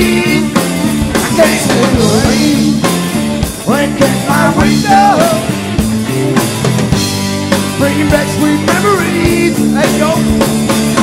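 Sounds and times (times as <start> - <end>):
bending guitar lead line: 0.0 - 11.0
live rock band playing: 0.0 - 11.0.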